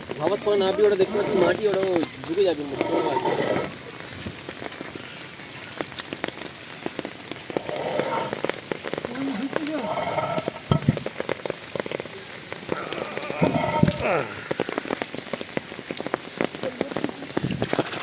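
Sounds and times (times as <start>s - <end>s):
rain pattering on water and ground: 0.0s - 18.0s.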